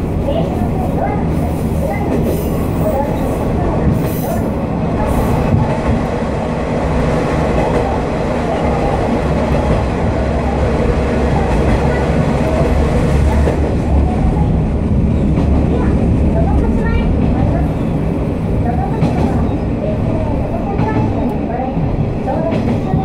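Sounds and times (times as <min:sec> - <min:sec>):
railcar wheels rumbling on rails: 0:00.0 - 0:23.0.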